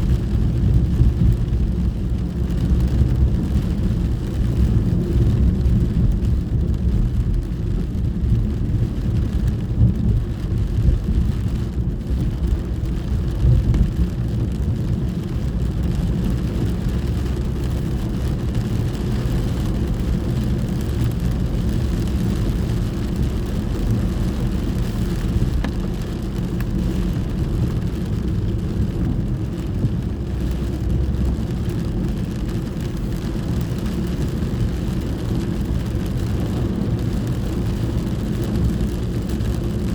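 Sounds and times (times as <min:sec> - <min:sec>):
car rumbling from inside cabin: 0:00.0 - 0:39.9
rain hissing on car: 0:00.0 - 0:39.9.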